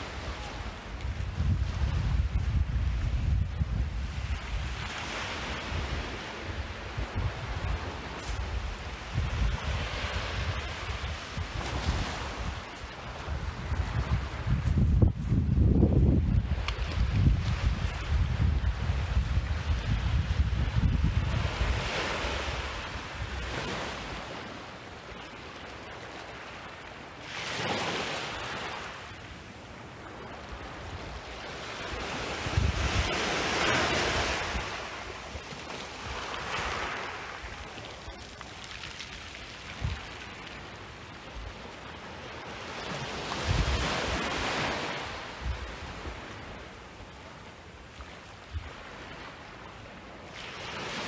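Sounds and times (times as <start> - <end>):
gentle waves washing on shore: 0.0 - 51.0.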